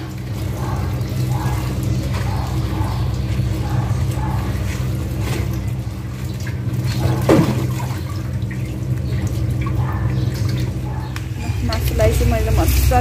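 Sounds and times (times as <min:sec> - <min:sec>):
low hum: 0:00.0 - 0:13.0
water running: 0:00.0 - 0:13.0.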